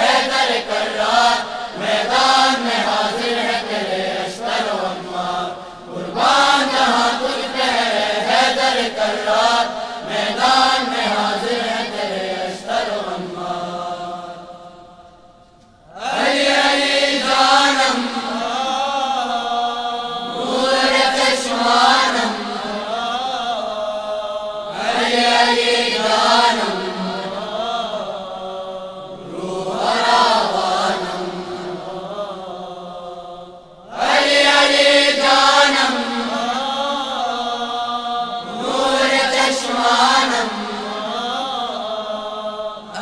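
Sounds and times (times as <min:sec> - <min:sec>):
chorus chanting: 0:00.0 - 0:43.0.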